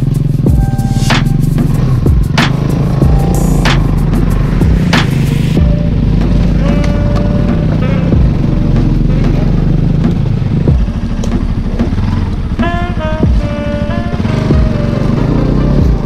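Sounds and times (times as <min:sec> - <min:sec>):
motorcycle engine running: 0:00.0 - 0:16.0
music melody: 0:00.4 - 0:16.0.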